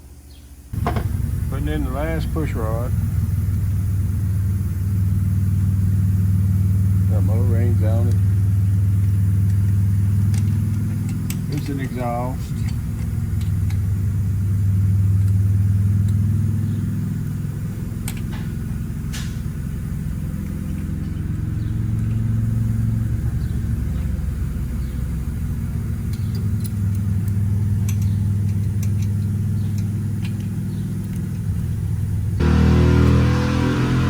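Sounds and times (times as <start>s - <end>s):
low engine rumble: 0.7s - 34.0s.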